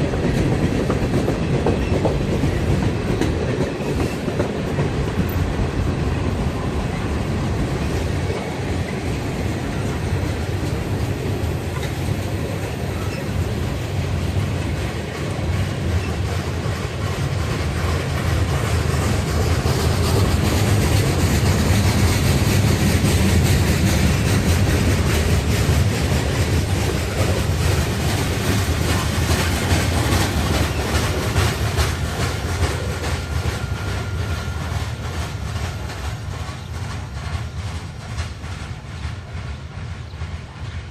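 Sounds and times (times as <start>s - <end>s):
freight train wheels rumbling: 0.0s - 40.9s
train cars clicking over rail joints: 0.0s - 40.9s.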